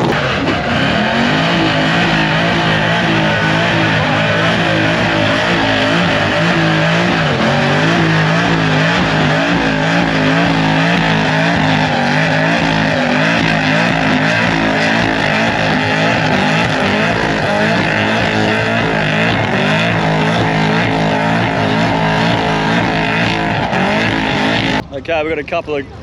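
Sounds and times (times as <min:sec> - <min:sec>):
loud car engine revving: 0:00.0 - 0:24.9.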